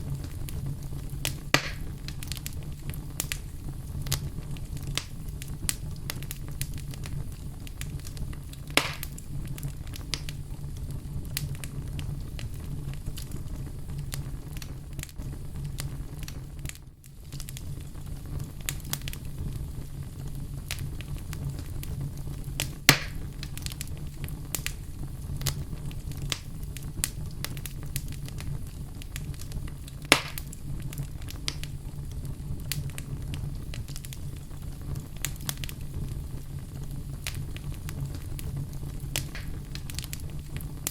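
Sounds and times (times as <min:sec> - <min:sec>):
fire crackling: 0:00.0 - 0:40.9
low rumble of flame: 0:00.0 - 0:40.9
sharp pops from fire: 0:00.0 - 0:40.9.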